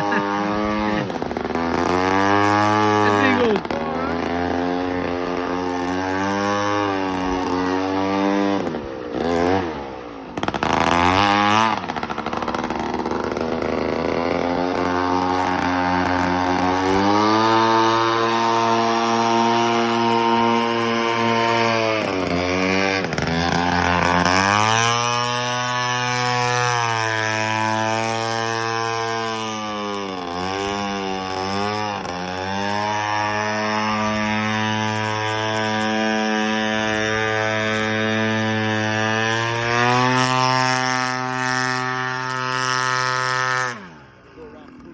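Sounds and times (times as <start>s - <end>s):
airboat motor revving: 0.0s - 44.9s.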